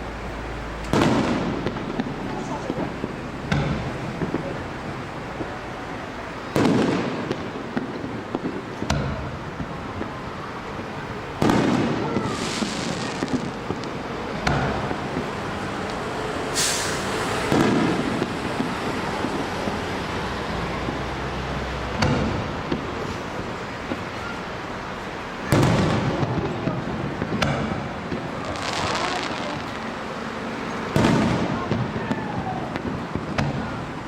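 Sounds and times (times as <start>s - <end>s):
fireworks booming: 0.0s - 34.0s
fireworks crackle: 0.0s - 34.0s.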